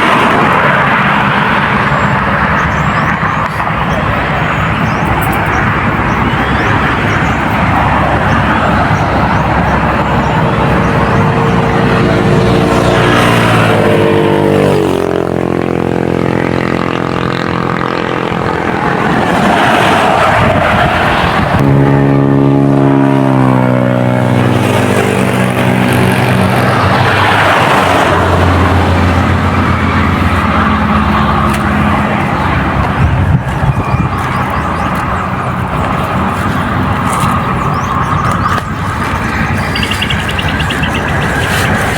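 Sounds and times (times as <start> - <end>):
motor vehicle engines passing: 0.0 - 41.9.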